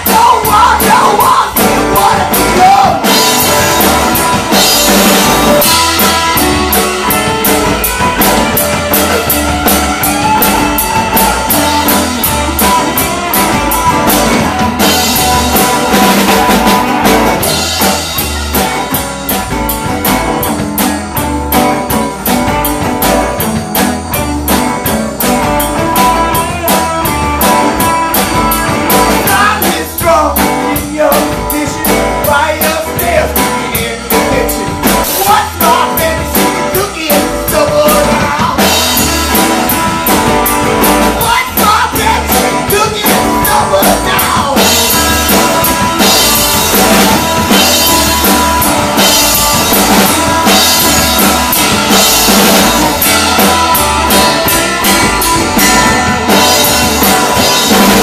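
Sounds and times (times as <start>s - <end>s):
person singing: 0.0s - 16.8s, 25.8s - 40.2s, 41.0s - 58.0s
drum kit: 0.0s - 58.0s
electric guitar: 0.0s - 58.0s.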